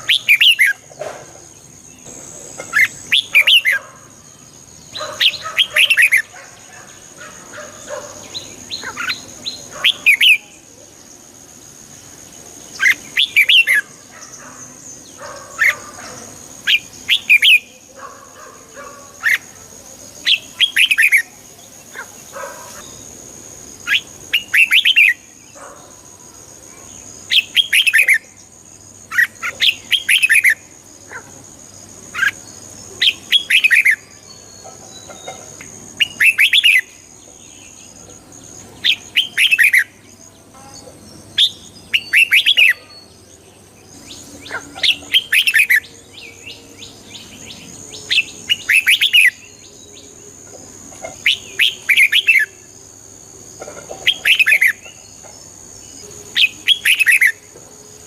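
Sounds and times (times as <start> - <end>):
bird singing chirpy phrases: 0.0 - 0.9, 1.7 - 52.7, 54.0 - 57.5.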